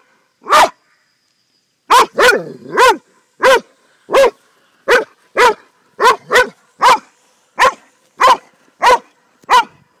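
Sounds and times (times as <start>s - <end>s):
dog barking: 0.4s - 0.8s, 1.9s - 9.8s.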